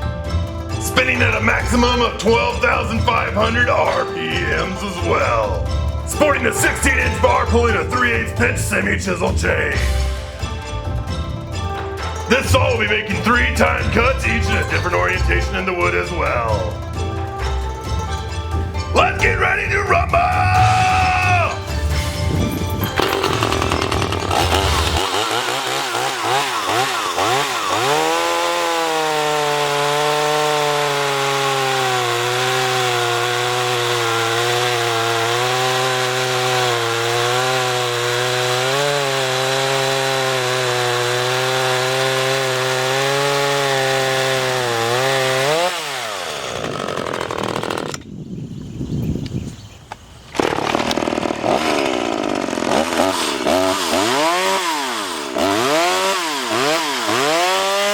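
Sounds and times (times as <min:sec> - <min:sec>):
chainsaw cutting log: 0:00.0 - 0:48.1, 0:50.3 - 0:57.9.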